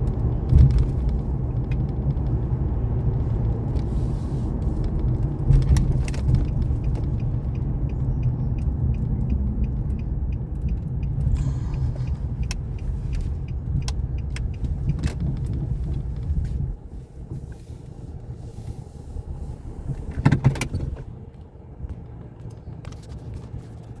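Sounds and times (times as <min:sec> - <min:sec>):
car engine low rumble: 0:00.0 - 0:24.0.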